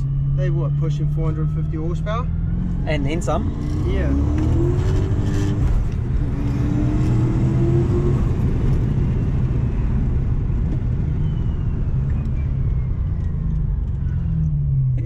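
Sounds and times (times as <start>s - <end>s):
car engine drone with whine: 0.0s - 15.0s.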